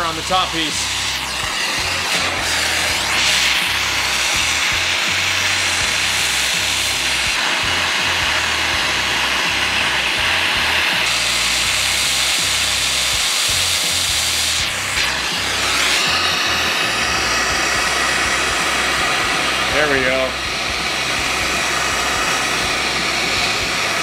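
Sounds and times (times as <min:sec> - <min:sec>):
gas torch flame hissing: 0:00.0 - 0:24.0.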